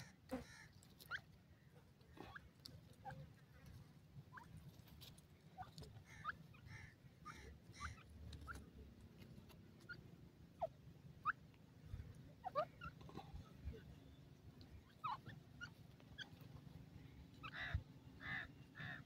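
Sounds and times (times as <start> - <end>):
young francolins peeping: 0.0 - 19.0.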